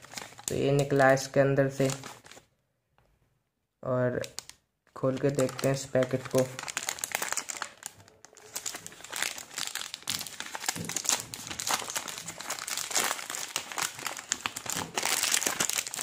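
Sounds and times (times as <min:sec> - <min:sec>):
plastic packet crinkling: 0:00.0 - 0:02.5, 0:04.1 - 0:16.0.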